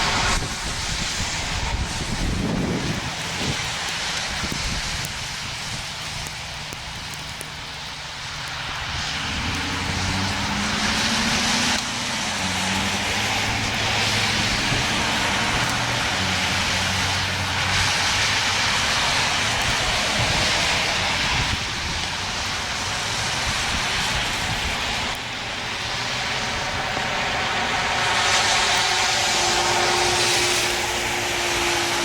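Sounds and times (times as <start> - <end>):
loud siren hiss: 0.0 - 32.0.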